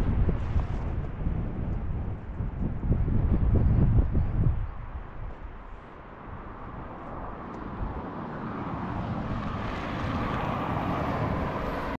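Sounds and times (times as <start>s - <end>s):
car approaching on road: 0.0s - 12.0s.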